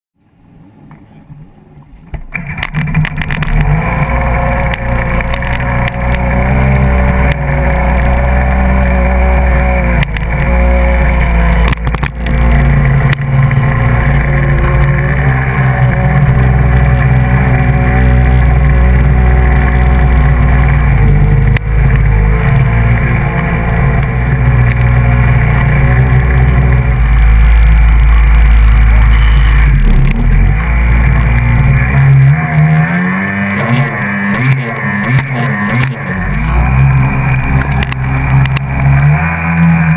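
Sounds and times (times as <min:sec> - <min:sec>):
jet ski engine running hard: 0:02.4 - 0:39.8
water rushing: 0:02.6 - 0:39.9.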